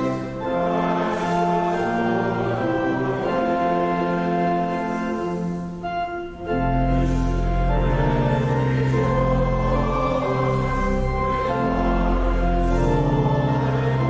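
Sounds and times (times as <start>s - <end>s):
instrumental hymn music: 0.0s - 14.0s.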